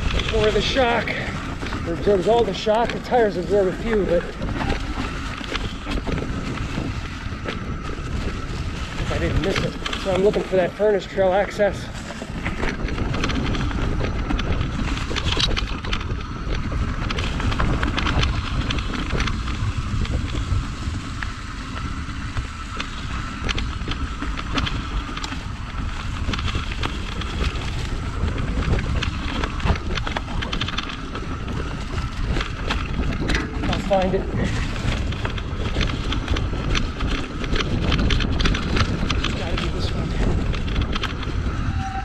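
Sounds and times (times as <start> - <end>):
bike clicks and rattles: 0.0 - 42.0
bike tyres rolling: 0.0 - 42.0
wind buffeting microphone: 0.0 - 42.0.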